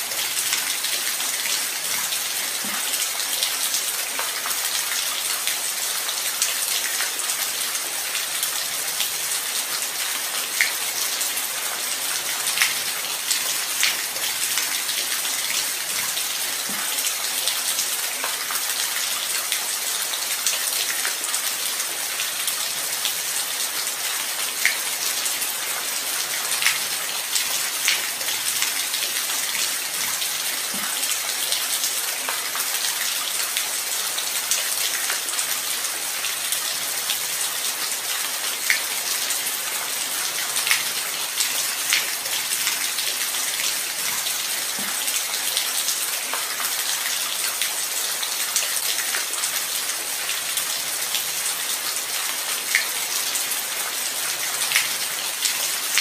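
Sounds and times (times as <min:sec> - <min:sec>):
light rain: 0:00.0 - 0:56.0.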